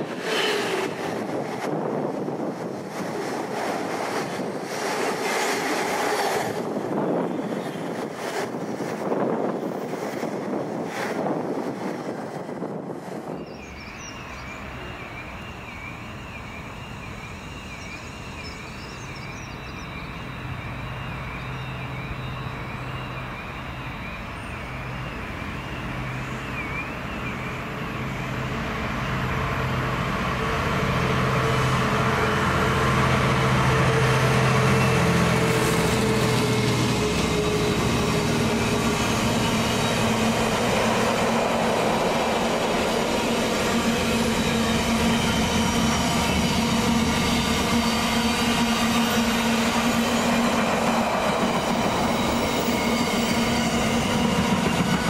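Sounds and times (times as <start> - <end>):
diesel locomotive engine: 0.0 - 55.0.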